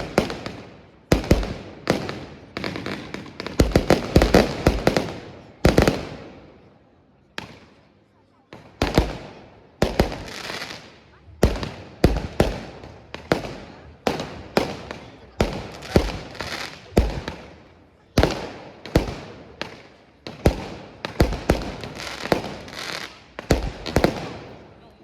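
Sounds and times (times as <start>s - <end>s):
fireworks crackling: 0.0s - 6.5s, 8.5s - 25.0s
fireworks exploding: 0.0s - 6.6s, 7.4s - 7.9s, 8.5s - 25.0s.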